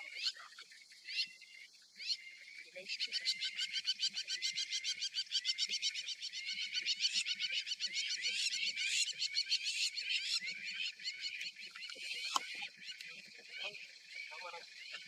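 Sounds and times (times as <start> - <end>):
bird chirping rapidly: 0.0 - 15.0.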